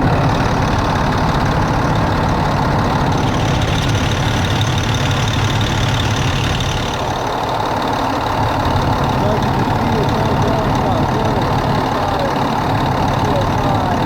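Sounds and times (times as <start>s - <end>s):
air compressor running: 0.0s - 14.0s
diesel engine idling: 0.0s - 14.0s.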